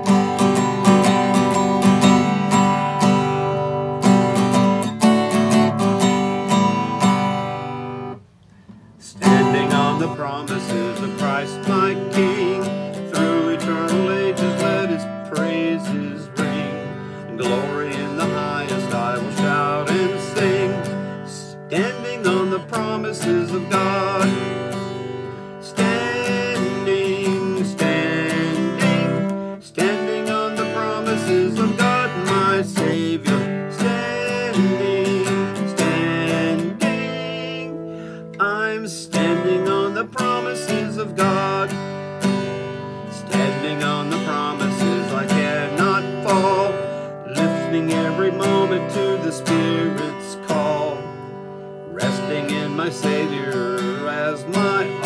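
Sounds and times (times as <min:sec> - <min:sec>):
acoustic guitar strumming chords: 0:00.0 - 0:55.0
man singing a hymn: 0:09.0 - 0:55.0.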